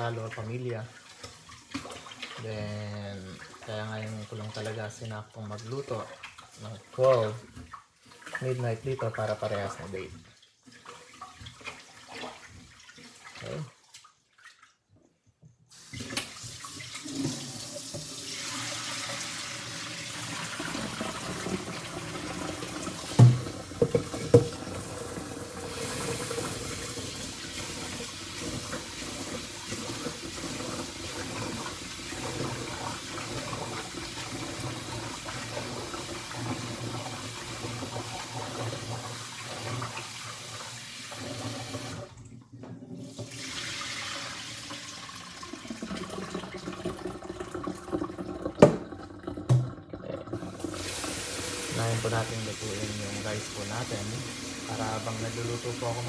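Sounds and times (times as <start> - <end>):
tap water running into a pot: 0.0 - 13.8, 15.7 - 56.0.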